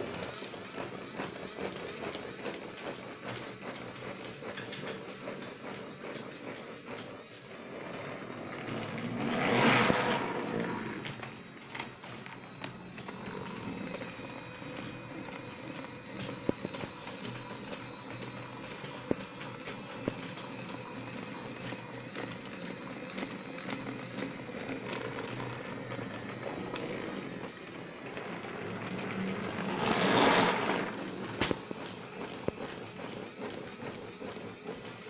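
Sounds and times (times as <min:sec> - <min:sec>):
toy motor whirring: 0:00.0 - 0:35.0.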